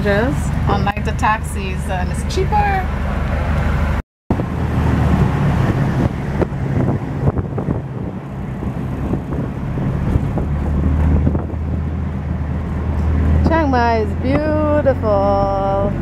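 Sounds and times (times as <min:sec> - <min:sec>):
vehicle engine low drone: 0:00.0 - 0:16.0
wind buffeting microphone: 0:00.0 - 0:16.0.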